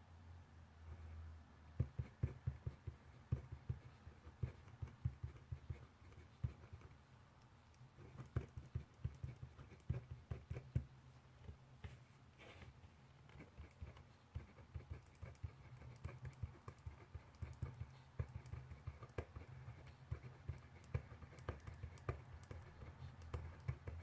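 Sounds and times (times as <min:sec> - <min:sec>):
pencil scratching on paper: 0:01.8 - 0:07.0, 0:08.0 - 0:12.0, 0:13.2 - 0:24.0.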